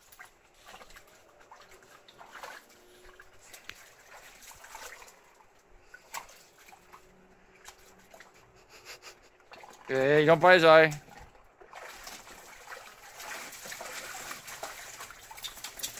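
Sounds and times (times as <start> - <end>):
dogs splashing in shallow water: 0.0 - 15.9.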